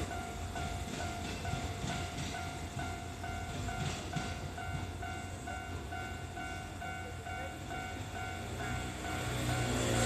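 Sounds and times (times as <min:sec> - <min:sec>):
level-crossing warning bell: 0:00.0 - 0:10.0
train rumbling: 0:00.0 - 0:10.0.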